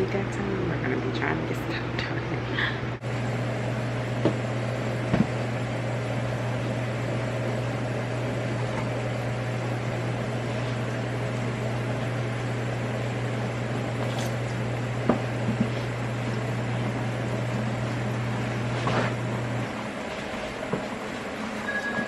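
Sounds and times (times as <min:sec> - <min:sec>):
machine motor hum: 0:02.8 - 0:22.0.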